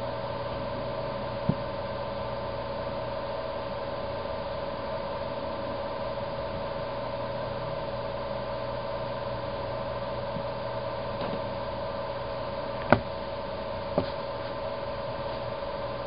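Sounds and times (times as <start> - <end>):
mechanical hum with whine: 0.0 - 16.0.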